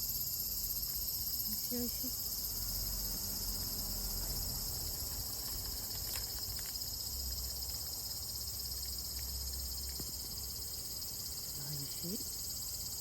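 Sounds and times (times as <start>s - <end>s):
cicadas shrilling: 0.0s - 13.0s.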